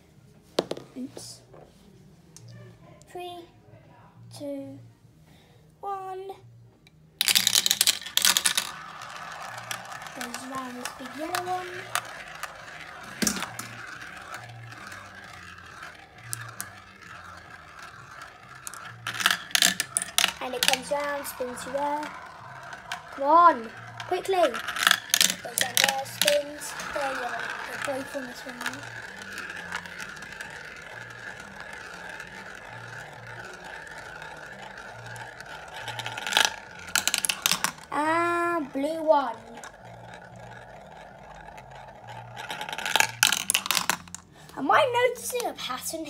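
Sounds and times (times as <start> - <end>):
marbles rolling in plastic funnel: 0.6 - 1.4, 7.2 - 46.0.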